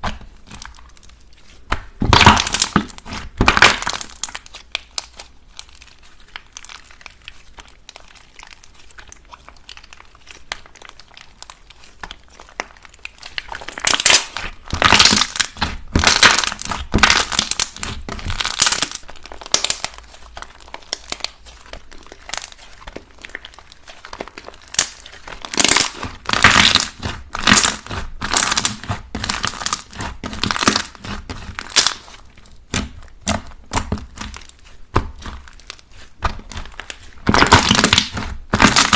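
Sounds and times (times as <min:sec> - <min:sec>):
hands squishing slime: 0:00.0 - 0:38.9.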